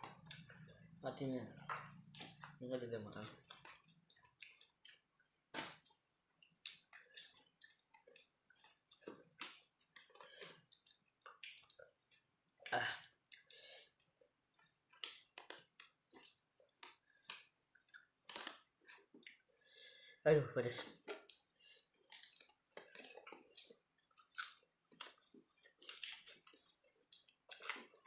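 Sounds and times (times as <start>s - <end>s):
person chewing and smacking: 0.0s - 20.2s, 20.8s - 28.0s.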